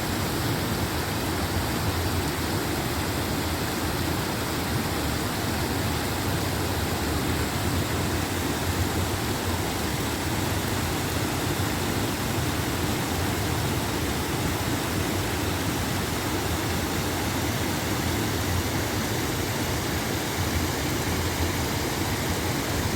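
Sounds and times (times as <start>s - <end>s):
water pouring over waterfall: 0.0s - 22.9s.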